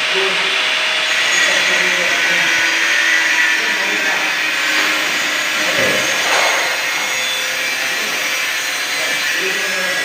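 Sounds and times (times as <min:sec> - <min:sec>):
power tool running: 0:00.0 - 0:10.0.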